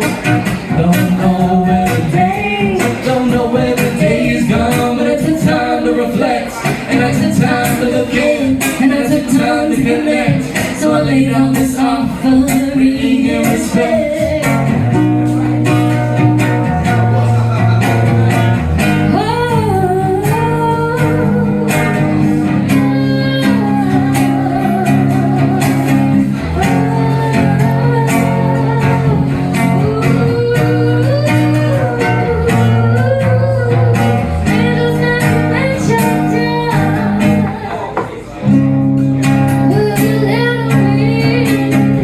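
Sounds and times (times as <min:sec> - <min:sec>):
guitar chords: 0:00.0 - 0:42.0.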